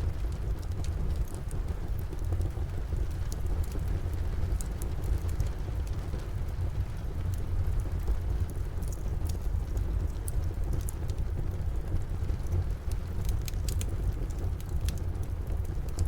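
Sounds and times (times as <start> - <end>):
steady rain: 0.0 - 16.0
wood fire crackling: 0.0 - 16.0.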